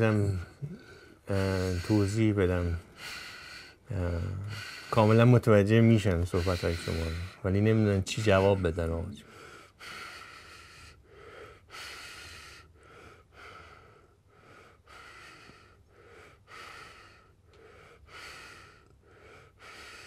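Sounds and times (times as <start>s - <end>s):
person breathing close to microphone: 0.0s - 5.4s, 6.0s - 20.0s.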